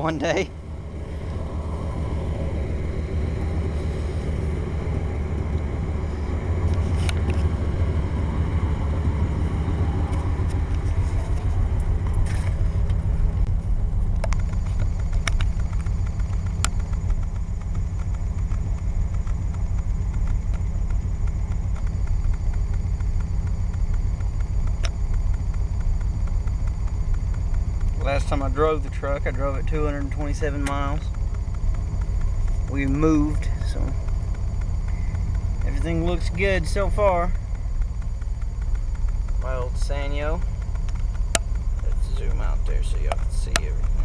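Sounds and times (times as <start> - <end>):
pickup engine idling: 0.0 - 44.0
sharp clicks: 8.3 - 44.0.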